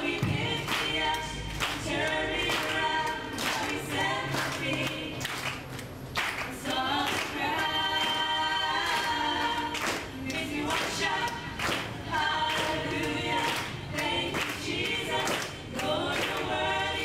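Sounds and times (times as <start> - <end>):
choir-like group singing: 0.0 - 17.0.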